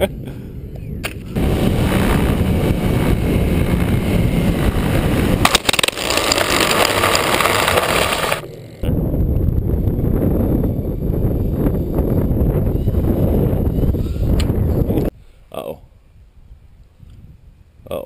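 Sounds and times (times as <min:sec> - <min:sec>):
hissy wind rush: 0:00.0 - 0:18.0
wind rumble on microphone: 0:00.0 - 0:18.0.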